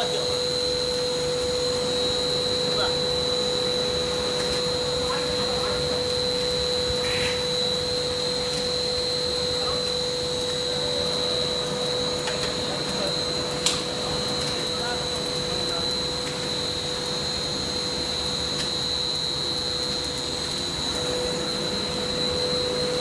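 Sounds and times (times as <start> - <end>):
blown-film machine whirring: 0.0 - 23.0.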